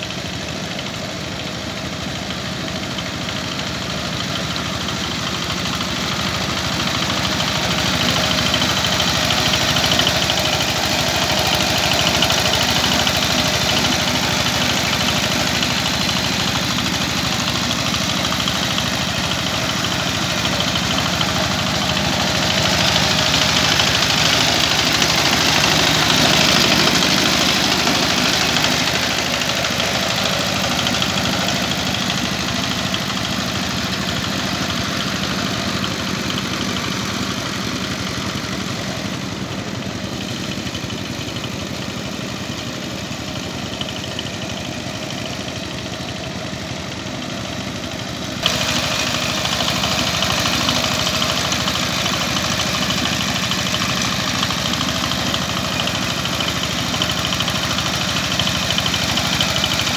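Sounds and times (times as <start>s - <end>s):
diesel tiller engine running: 0.0s - 59.9s.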